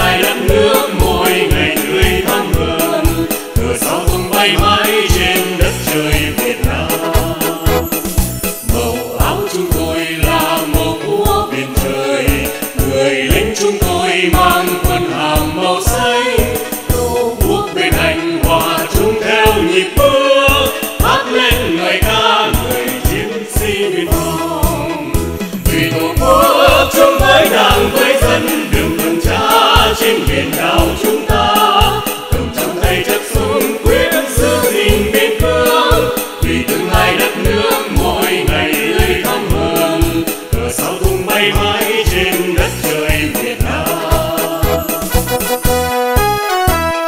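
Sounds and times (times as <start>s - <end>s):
person singing with band: 0.0s - 7.9s, 8.6s - 45.2s.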